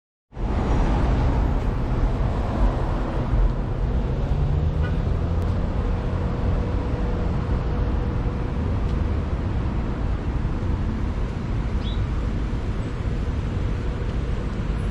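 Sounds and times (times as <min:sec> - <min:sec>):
city street traffic: 0:00.3 - 0:14.9.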